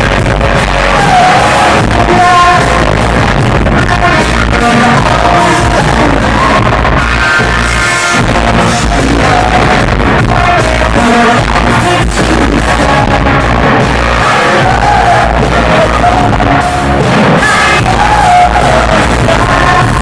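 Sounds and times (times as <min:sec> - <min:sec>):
loud rock band playing: 0:00.0 - 0:20.0
person singing: 0:00.0 - 0:20.0.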